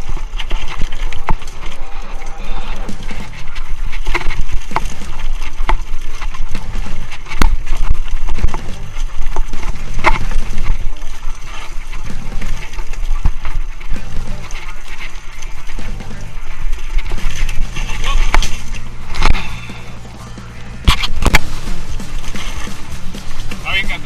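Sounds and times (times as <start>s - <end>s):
bike frame rattling and knocking: 0.0s - 24.0s
wind rumble on microphone: 0.0s - 24.0s.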